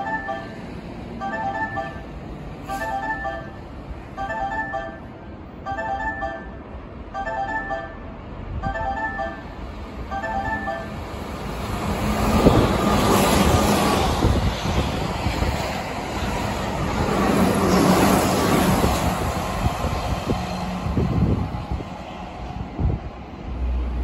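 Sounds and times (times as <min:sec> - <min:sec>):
train rushing past: 0:00.0 - 0:24.0.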